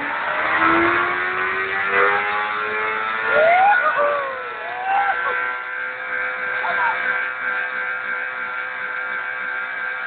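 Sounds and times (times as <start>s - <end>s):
motorcycle engines accelerating: 0.0s - 10.0s.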